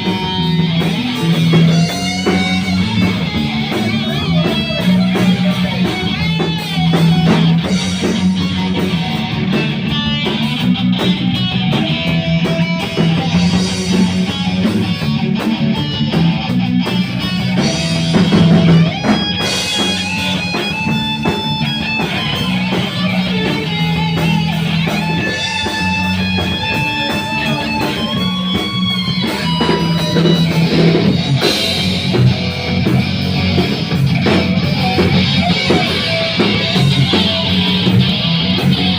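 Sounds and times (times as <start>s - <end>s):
rock music: 0.0s - 38.9s.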